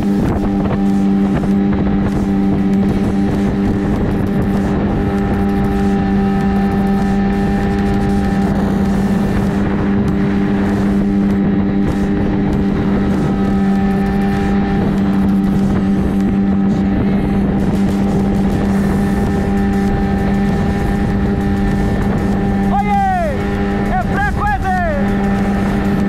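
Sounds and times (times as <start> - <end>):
outboard motor running: 0.0 - 26.0
wind on microphone: 0.0 - 26.0.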